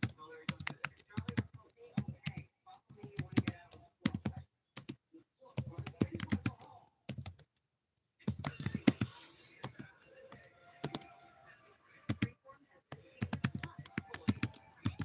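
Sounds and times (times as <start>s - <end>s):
typing on keyboard: 0.0s - 5.0s, 5.6s - 11.1s, 12.1s - 15.0s.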